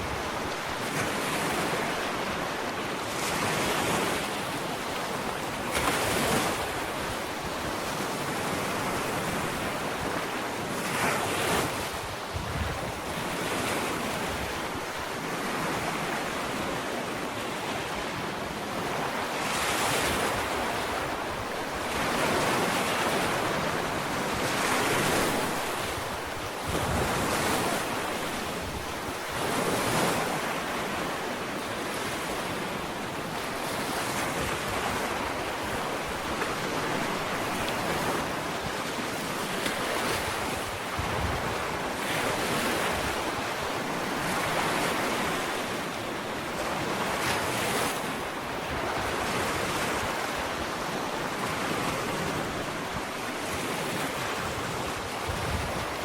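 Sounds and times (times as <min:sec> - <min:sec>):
ocean waves on a beach: 0:00.0 - 0:56.0.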